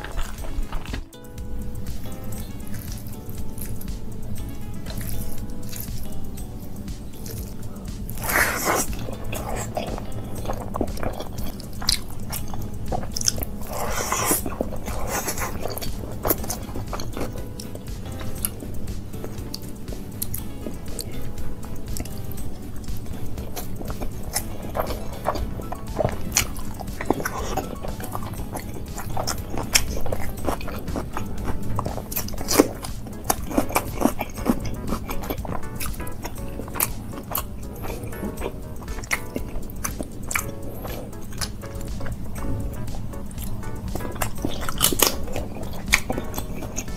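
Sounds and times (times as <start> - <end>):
person chewing food: 0.0 - 46.9
wet smacking mouth sounds: 1.8 - 46.9.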